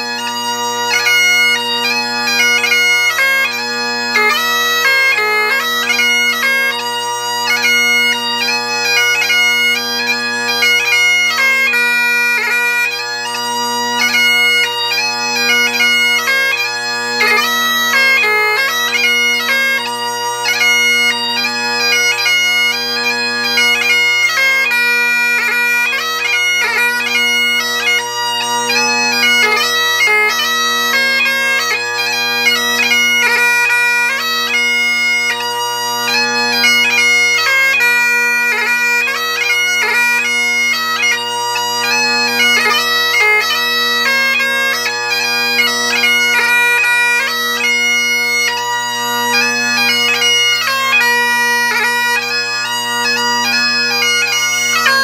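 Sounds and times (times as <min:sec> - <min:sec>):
bagpipe playing a march: 0:00.0 - 0:55.0.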